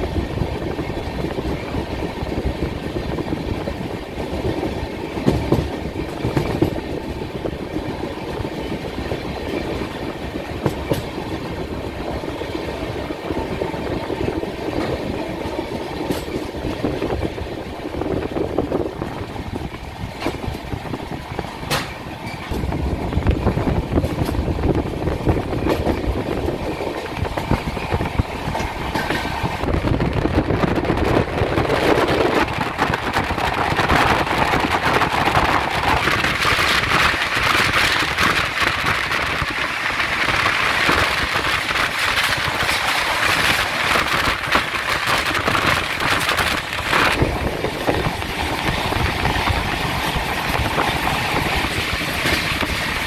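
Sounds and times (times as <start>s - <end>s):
train wheels rumbling: 0.0s - 53.0s
wheels clacking over rail joints: 0.7s - 53.0s.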